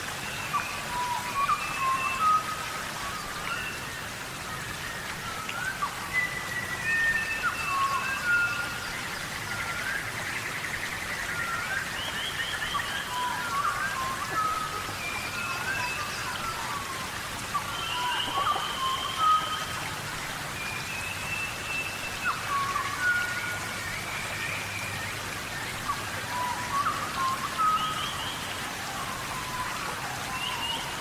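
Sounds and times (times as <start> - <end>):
steady rain: 0.0 - 31.0
birds whistling and trilling: 0.1 - 31.0.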